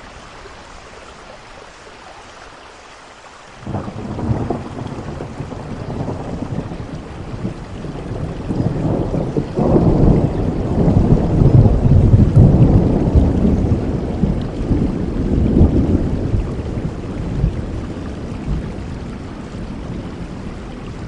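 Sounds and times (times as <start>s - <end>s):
heavy rain: 0.0s - 21.0s
thunder rumbling: 3.6s - 21.0s.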